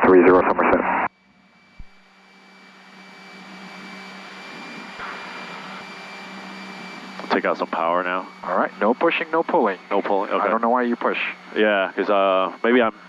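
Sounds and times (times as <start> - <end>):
light aircraft engine drone: 1.0 - 13.0.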